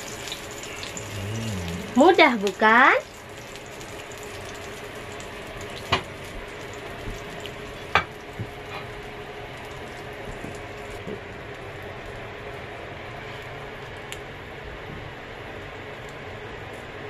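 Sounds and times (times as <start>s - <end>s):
butter sizzling in grill pan: 0.0s - 13.9s.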